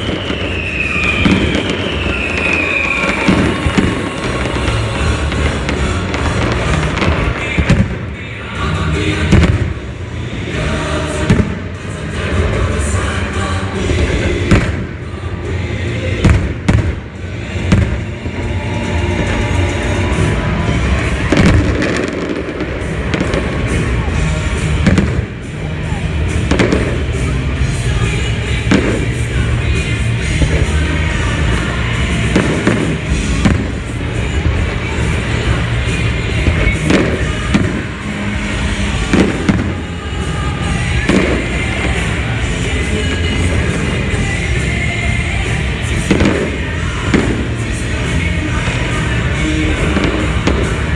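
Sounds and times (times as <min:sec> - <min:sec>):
fireworks bangs: 0:00.0 - 0:50.9
music playing: 0:00.0 - 0:50.9.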